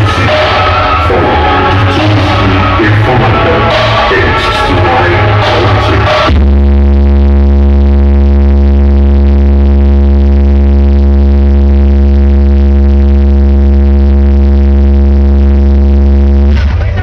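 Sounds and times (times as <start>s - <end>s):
loud distorted bass tone: 0.0s - 17.0s.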